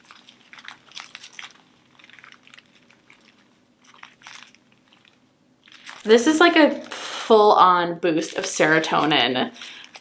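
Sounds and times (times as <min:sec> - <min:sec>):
plastic bags crinkling: 0:00.0 - 0:07.4, 0:08.2 - 0:10.0.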